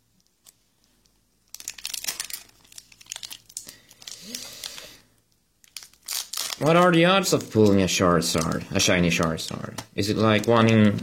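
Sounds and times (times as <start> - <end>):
foil wrapper crinkling and tearing: 1.4 - 11.0.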